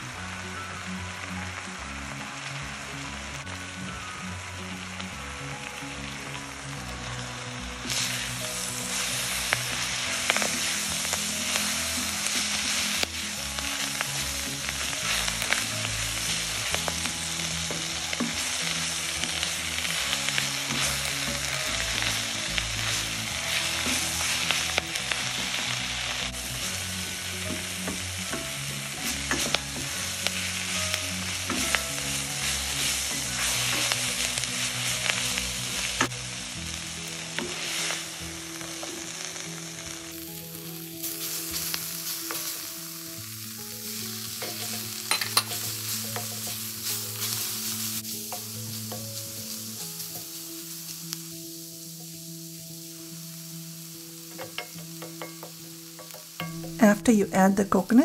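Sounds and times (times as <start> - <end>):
background music: 0.0 - 58.0
vegetables sizzling in a wok: 0.0 - 58.0.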